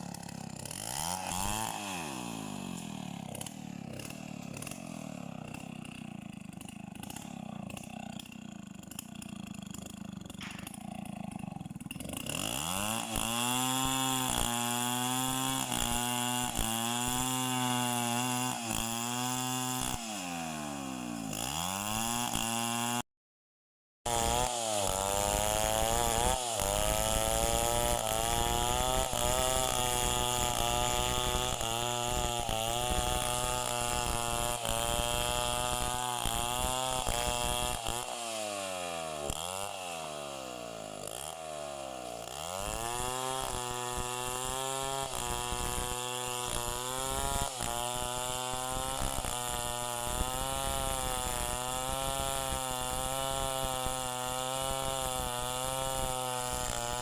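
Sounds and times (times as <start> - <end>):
chainsaw engine running: 0.0 - 23.0, 24.1 - 57.0.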